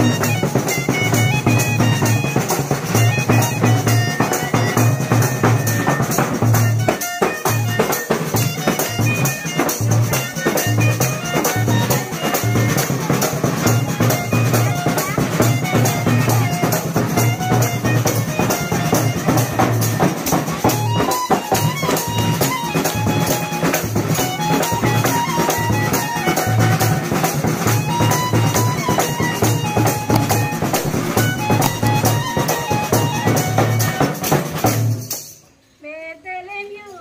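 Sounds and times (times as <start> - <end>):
music with steady drum beat: 0.0 - 35.5.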